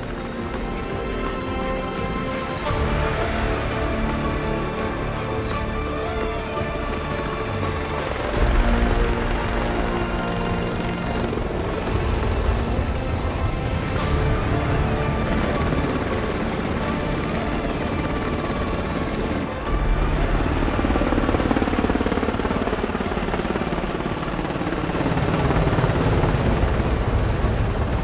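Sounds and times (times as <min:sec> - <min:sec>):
helicopter rotors and engine: 0:00.0 - 0:28.0.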